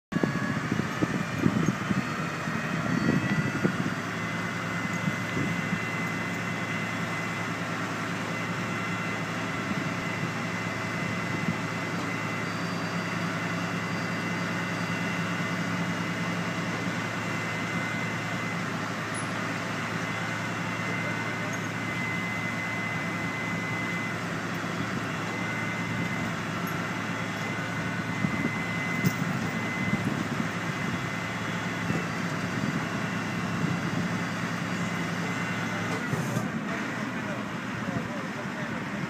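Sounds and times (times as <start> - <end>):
crane engine humming: 0.1 - 39.0.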